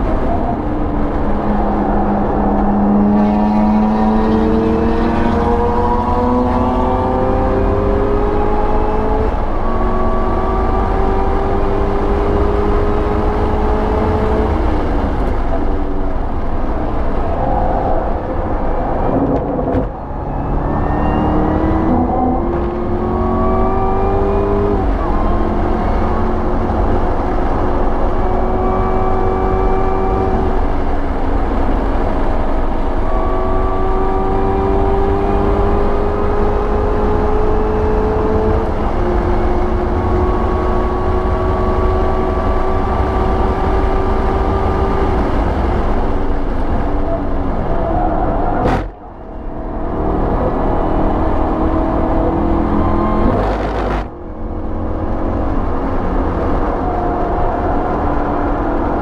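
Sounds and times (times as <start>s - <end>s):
car engine at full throttle: 0.0s - 59.0s
wind and road noise: 0.0s - 59.0s.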